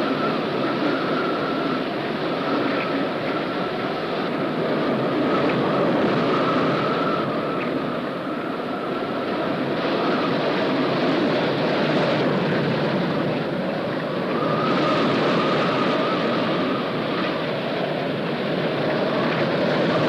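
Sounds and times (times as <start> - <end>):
faint wavering wind whistle: 0.0 - 20.0
storm wind rushing: 0.0 - 20.0.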